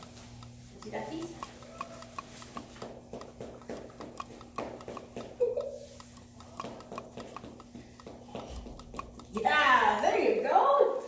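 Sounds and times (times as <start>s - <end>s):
dog sniffing: 0.0s - 10.0s
dog claws clicking on tile: 0.0s - 10.1s.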